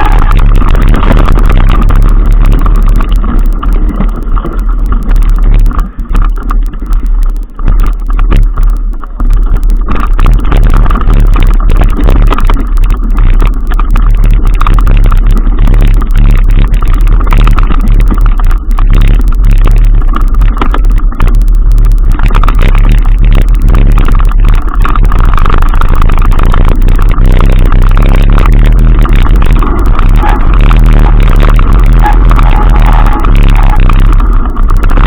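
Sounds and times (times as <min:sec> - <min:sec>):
ride rumble and wind roar: 0:00.0 - 0:35.0.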